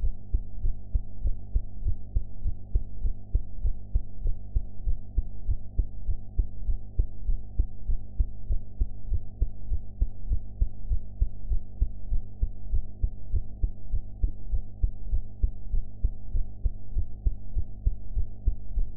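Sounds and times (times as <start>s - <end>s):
heartbeat thumps: 0.0s - 18.9s
low steady hum: 0.0s - 18.9s.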